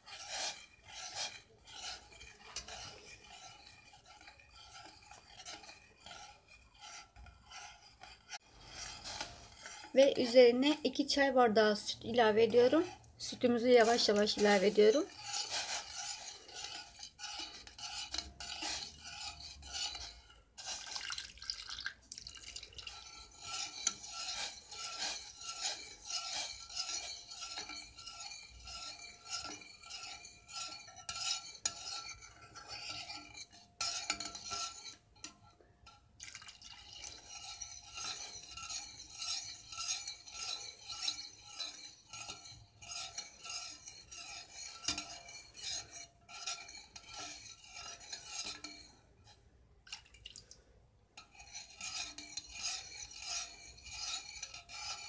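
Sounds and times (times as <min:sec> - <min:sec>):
metal spoon clinking in pot: 0:00.0 - 0:10.4, 0:11.8 - 0:50.1, 0:51.2 - 0:55.0.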